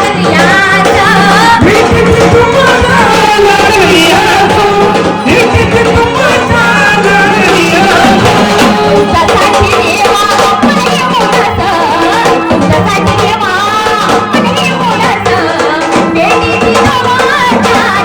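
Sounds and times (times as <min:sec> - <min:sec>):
drumming: 0:00.0 - 0:18.0
electronic organ: 0:00.0 - 0:18.0
woman singing: 0:00.0 - 0:18.0.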